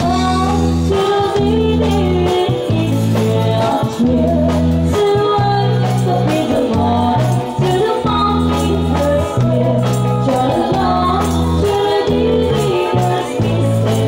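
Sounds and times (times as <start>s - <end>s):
bass: 0.0s - 14.0s
drums: 0.0s - 14.0s
shaken tambourine: 0.0s - 14.0s
women singing together: 0.0s - 14.0s.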